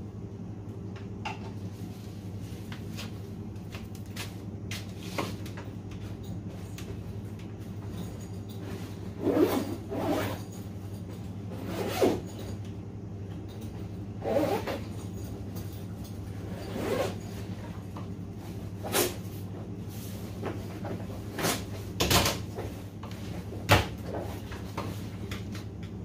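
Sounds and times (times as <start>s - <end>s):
refrigeration compressor humming: 0.0s - 26.0s.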